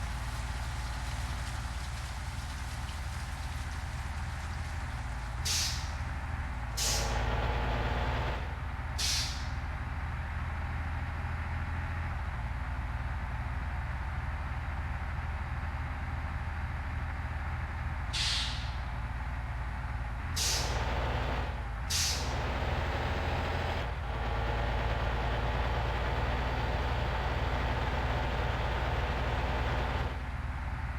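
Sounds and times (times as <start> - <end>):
truck engine droning: 0.0 - 30.9.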